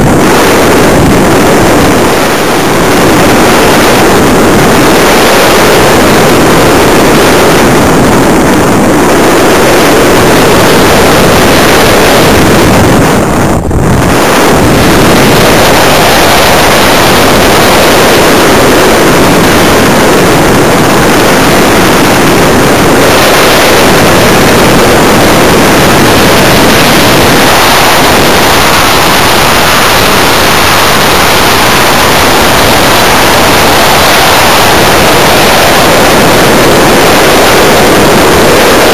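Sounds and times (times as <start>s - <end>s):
airflow rushing over microphone: 0.0s - 38.9s
thin high whine: 0.0s - 38.9s.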